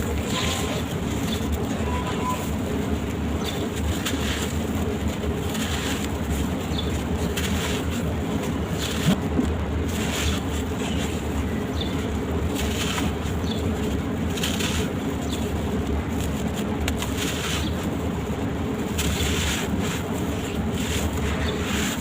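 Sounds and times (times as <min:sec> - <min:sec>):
sand-cement crumbling crunch: 0:00.0 - 0:22.0
steady low hum: 0:00.0 - 0:22.0.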